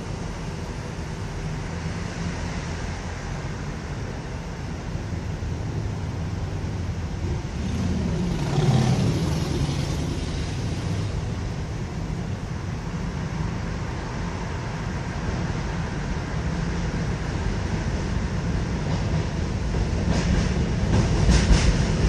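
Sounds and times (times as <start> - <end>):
low rumble of vehicles on bridge: 0.0 - 22.0.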